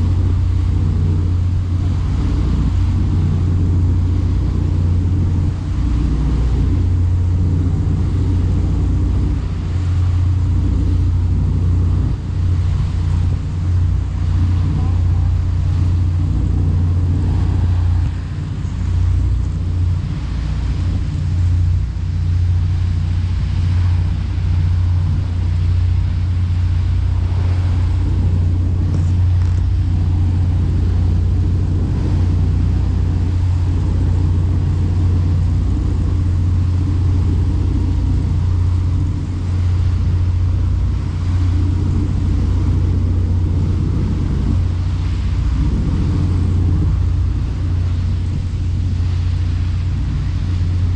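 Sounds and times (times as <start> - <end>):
boat engine droning: 0.0 - 50.9
water rushing: 0.0 - 50.9
wind: 0.0 - 50.9.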